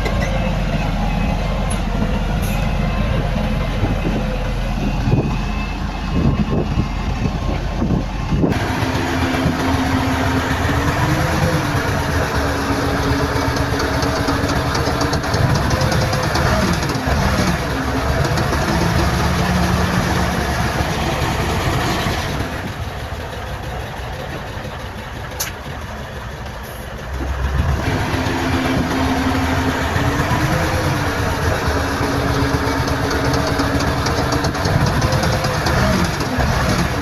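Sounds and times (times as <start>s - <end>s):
heavy diesel machinery running: 0.0s - 37.0s.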